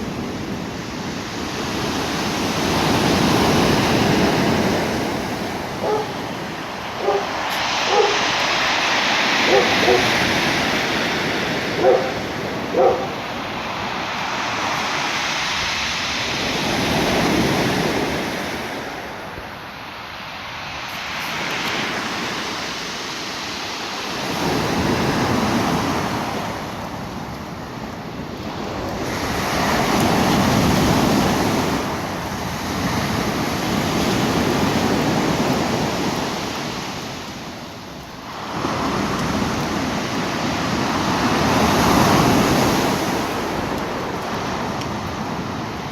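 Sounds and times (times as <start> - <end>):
waves breaking on the shore: 0.0 - 45.9.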